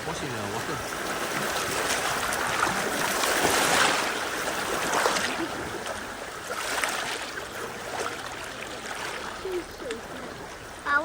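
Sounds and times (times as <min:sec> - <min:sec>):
river water rushing and splashing: 0:00.0 - 0:11.0.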